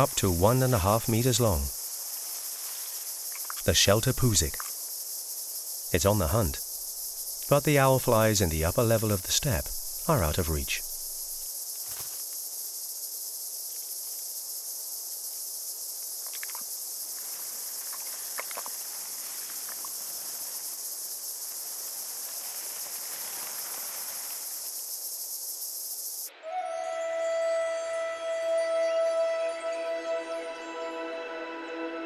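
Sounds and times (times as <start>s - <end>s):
high-pitched insect chorus: 0.0s - 26.4s.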